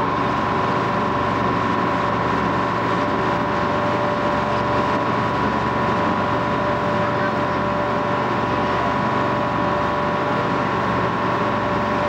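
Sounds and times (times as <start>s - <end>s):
constant high whine: 0.0s - 12.0s
ferry engine running: 0.0s - 12.0s
water noise: 0.0s - 12.0s.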